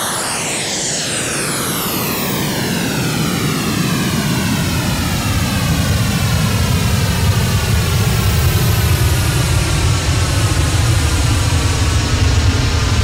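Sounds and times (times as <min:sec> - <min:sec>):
synthesized aircraft rushing noise: 0:00.0 - 0:13.0.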